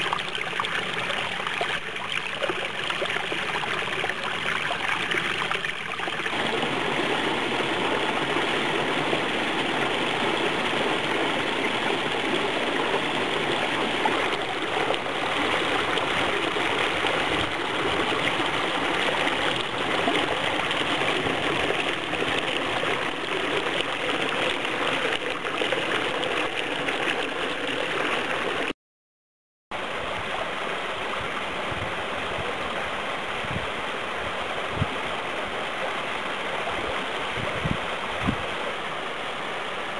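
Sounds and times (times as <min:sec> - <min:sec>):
stream rushing over rocks: 0:00.0 - 0:28.8, 0:29.8 - 0:39.9.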